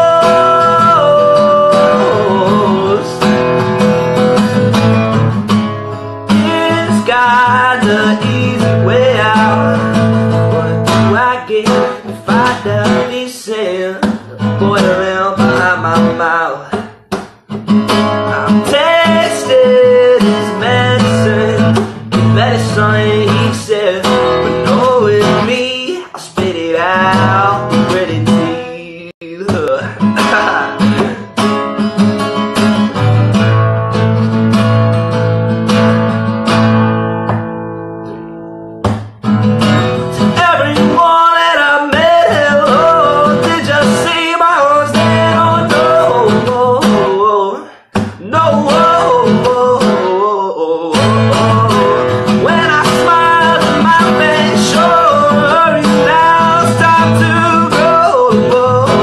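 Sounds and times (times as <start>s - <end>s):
man singing: 0.0s - 5.2s, 6.2s - 31.8s, 39.6s - 59.0s
acoustic guitar strumming: 0.0s - 59.0s.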